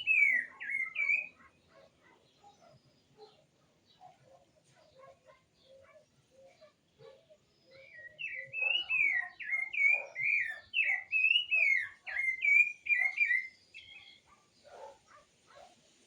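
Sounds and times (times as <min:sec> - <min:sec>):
songbird singing whistled notes: 0:00.0 - 0:05.0, 0:05.6 - 0:15.1.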